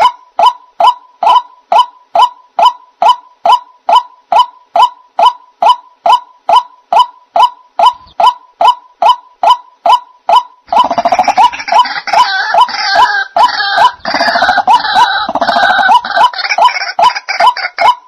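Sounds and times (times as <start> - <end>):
overlapping croaking calls: 0.0 - 18.0
waterhen kook calls: 0.0 - 18.0.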